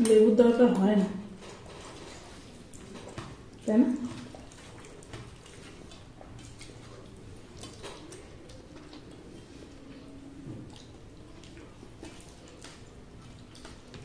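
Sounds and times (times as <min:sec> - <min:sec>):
fingers mixing food on steel plates: 0:00.0 - 0:14.0.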